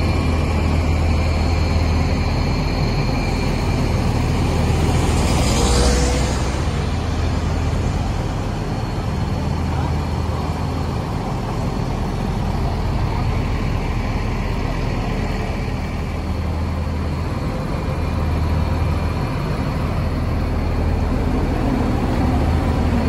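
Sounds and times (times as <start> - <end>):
bus diesel engines idling: 0.0 - 23.0.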